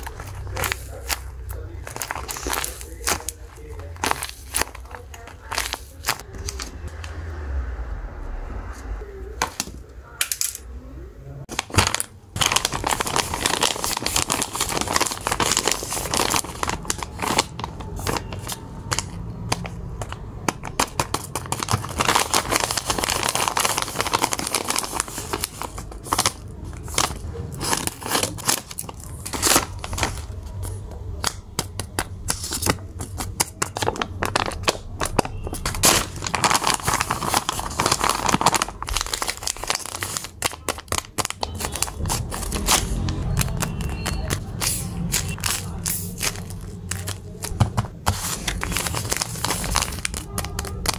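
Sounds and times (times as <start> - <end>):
paper crinkling and rustling: 0.0 - 7.2, 11.5 - 50.9.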